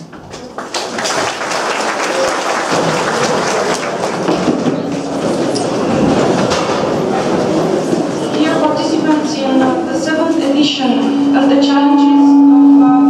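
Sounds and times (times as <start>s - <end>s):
clatter of people sitting at benches: 0.0s - 10.9s.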